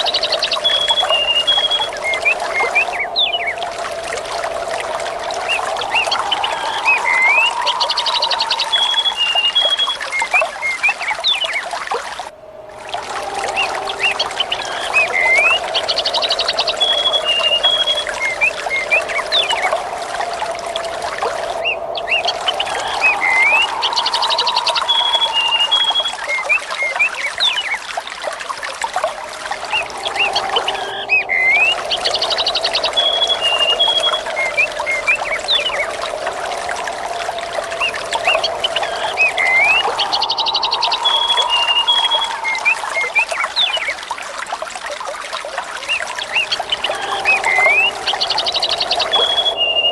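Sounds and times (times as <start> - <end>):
wind whistling: 0.0 - 11.3, 12.2 - 49.9
birds chirping and trilling: 0.0 - 11.7, 12.6 - 27.8, 29.1 - 44.1, 45.7 - 49.9
trickling water: 0.0 - 49.9.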